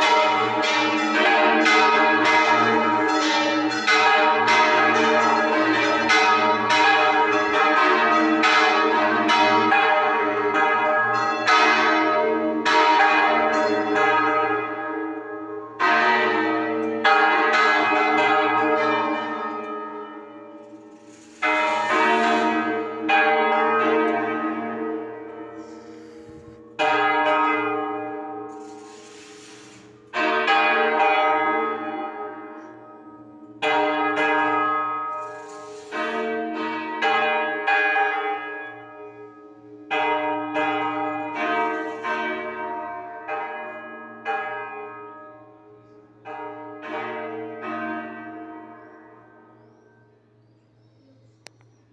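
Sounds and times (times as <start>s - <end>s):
church bells ringing: 0.0s - 51.9s.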